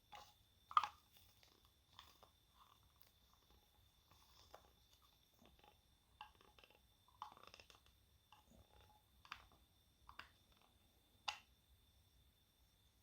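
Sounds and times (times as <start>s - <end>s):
mixing stick scraping in a cup: 0.0s - 10.7s.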